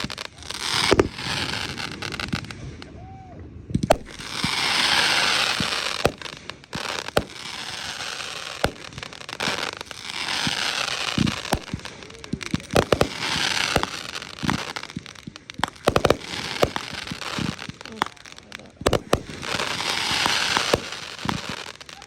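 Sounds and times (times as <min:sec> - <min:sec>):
fireworks bangs and pops: 0:00.0 - 0:02.9, 0:03.6 - 0:22.0
fireworks hissing and crackling: 0:00.0 - 0:22.0.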